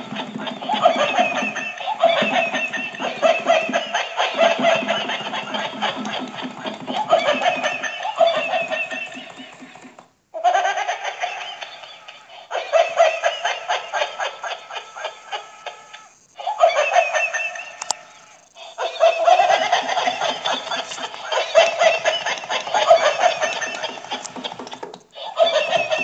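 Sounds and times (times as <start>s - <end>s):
person laughing heartily: 0.0s - 26.0s.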